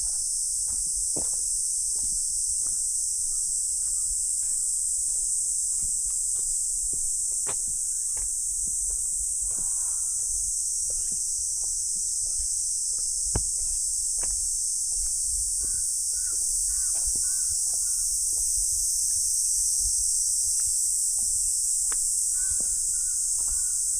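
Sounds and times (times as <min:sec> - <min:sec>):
high-pitched insect chorus: 0:00.0 - 0:23.9.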